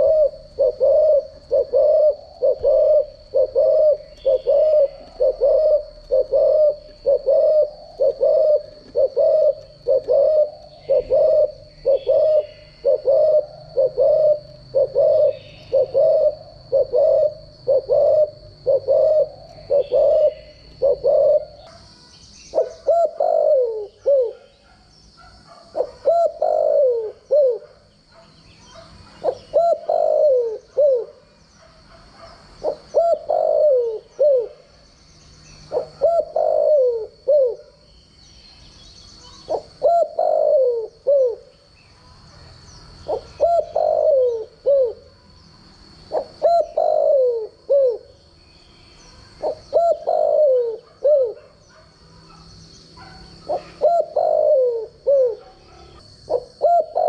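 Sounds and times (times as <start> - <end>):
dove cooing: 0.0 - 21.8, 22.5 - 34.9, 35.5 - 37.9, 39.1 - 41.7, 42.4 - 45.3, 45.9 - 48.2, 49.1 - 57.0.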